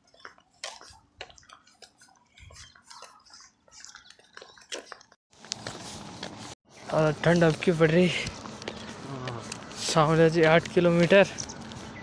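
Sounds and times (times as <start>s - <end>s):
footsteps in sandals on pavement: 0.0s - 12.0s.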